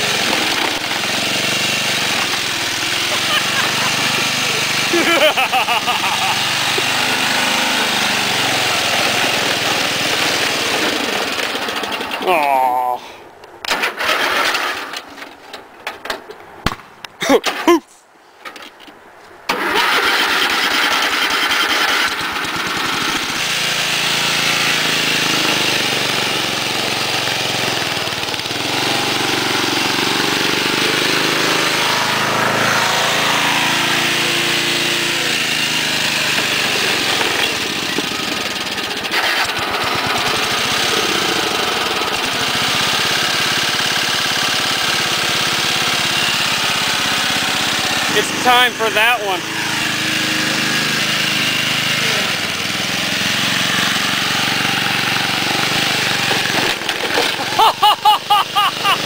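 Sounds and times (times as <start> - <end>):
lawn tractor engine running: 0.0 - 12.4, 13.6 - 15.4, 19.5 - 59.0.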